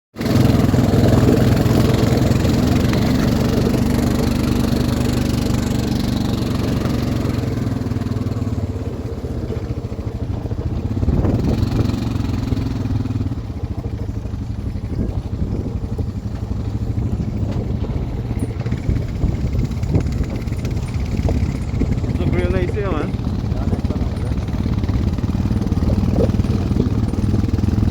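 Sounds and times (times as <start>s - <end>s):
atv engine running: 0.2s - 27.9s.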